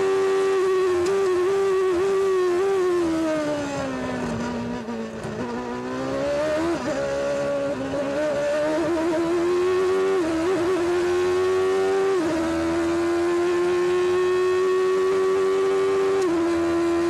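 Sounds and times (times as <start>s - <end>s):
racing engine at high revs: 0.0s - 17.0s.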